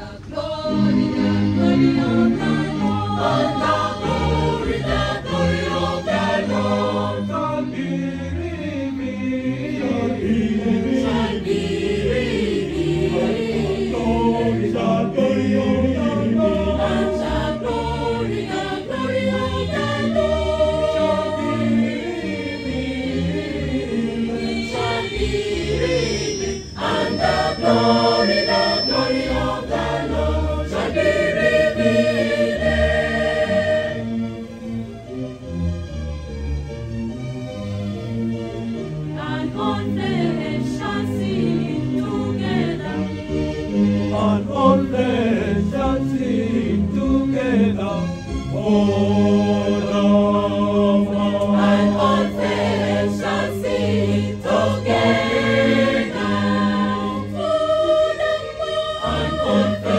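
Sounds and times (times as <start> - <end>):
mixed choir singing: 0.0 - 34.6, 39.1 - 59.9.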